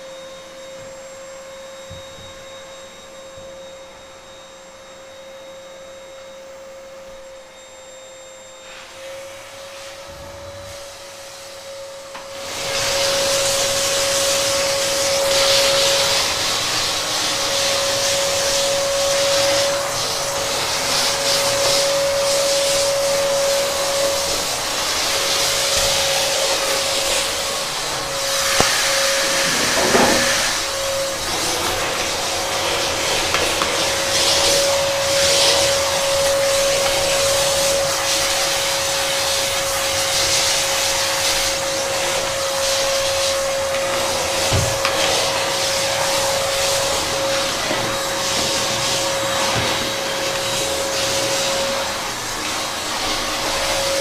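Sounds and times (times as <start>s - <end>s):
fumigation cartridge whistle: 0.0s - 54.0s.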